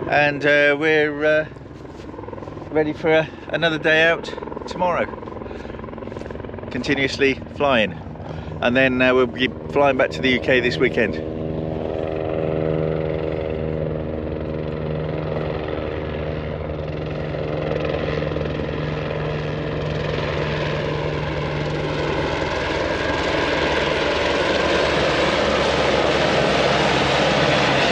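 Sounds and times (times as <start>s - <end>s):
propeller aircraft engine running: 0.0s - 27.9s.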